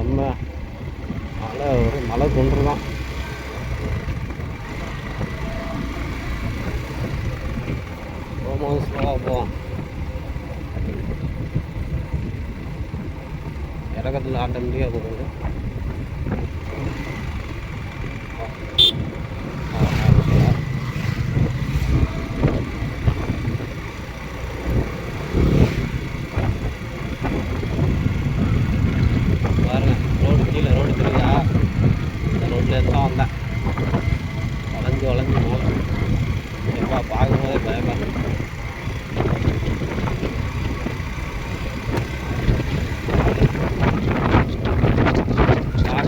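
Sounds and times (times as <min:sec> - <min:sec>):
wind rumble on microphone: 0:00.0 - 0:46.0
motorcycle engine coasting: 0:00.6 - 0:46.0.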